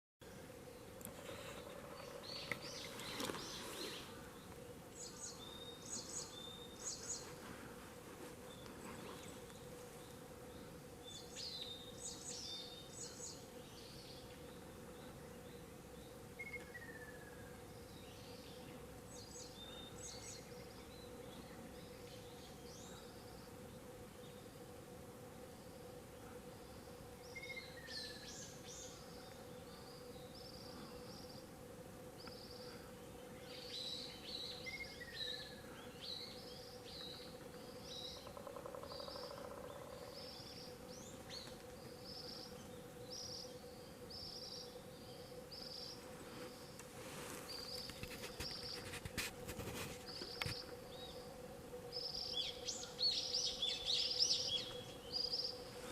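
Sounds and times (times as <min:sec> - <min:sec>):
steady hum: 0:00.2 - 0:55.9.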